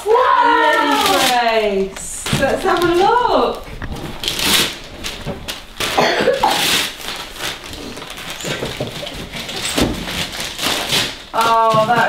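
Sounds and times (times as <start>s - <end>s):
wrapping paper tearing and rustling: 0.1s - 12.0s.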